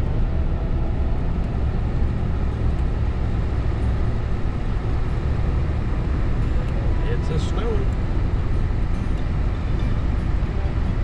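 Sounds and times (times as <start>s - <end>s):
vehicle engine and tyre rumble: 0.0s - 11.0s.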